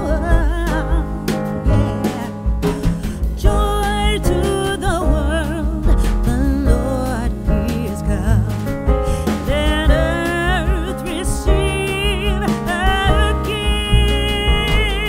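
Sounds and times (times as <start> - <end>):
person singing with vibrato: 0.0 - 8.5, 9.2 - 15.0
bass and steady beat: 0.0 - 15.0.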